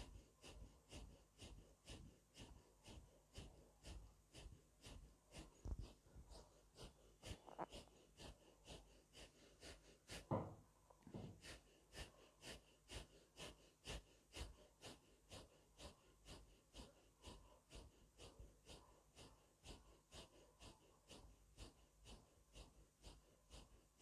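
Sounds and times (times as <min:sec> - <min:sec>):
forceful rhythmic nasal breathing: 0:00.0 - 0:24.0.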